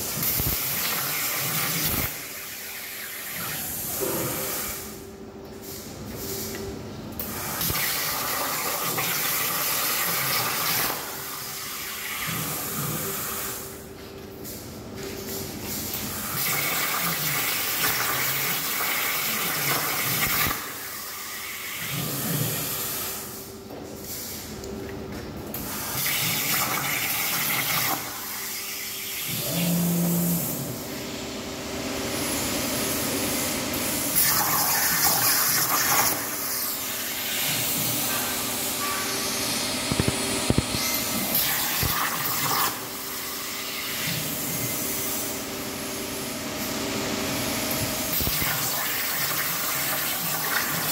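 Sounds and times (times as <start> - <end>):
plasma cutter hissing: 0.1 - 5.0, 7.2 - 13.8, 15.9 - 24.5, 25.6 - 31.0, 32.2 - 45.4, 48.1 - 50.9.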